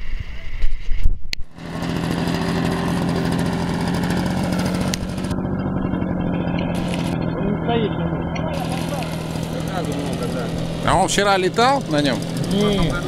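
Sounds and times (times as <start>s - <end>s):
model airplane engine idling: 1.5s - 13.0s.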